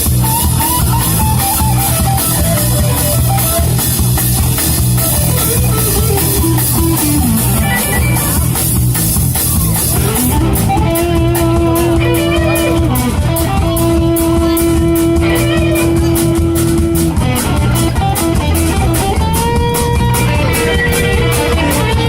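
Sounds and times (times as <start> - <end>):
electric guitar sustained notes: 0.0 - 22.0
rock band playing: 0.0 - 22.0.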